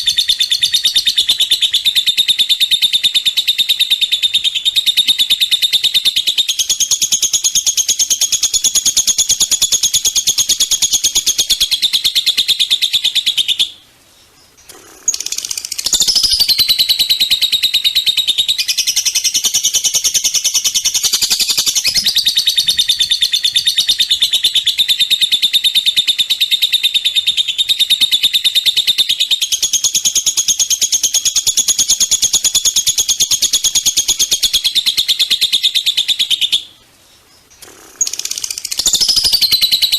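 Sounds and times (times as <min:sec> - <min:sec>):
songbird trilling song: 0:00.0 - 0:39.9.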